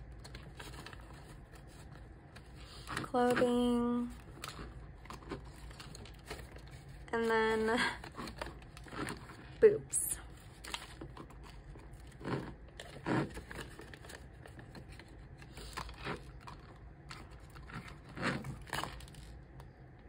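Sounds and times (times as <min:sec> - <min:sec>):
paper and plastic rustling: 0:00.0 - 0:19.7.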